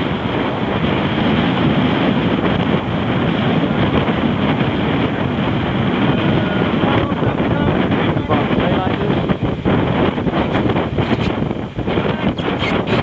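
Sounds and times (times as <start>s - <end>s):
choppy water along hull: 0.0s - 13.0s
wind buffeting microphone: 0.0s - 13.0s.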